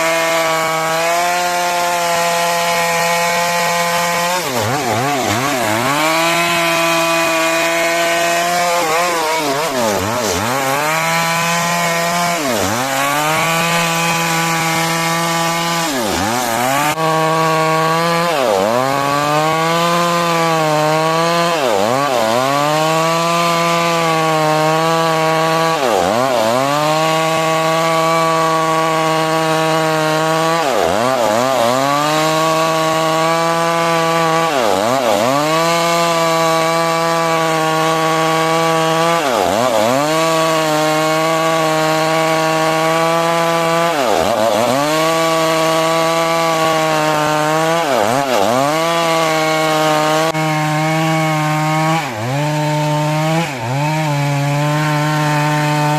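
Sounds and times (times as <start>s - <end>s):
chainsaw cutting log: 0.0s - 55.9s.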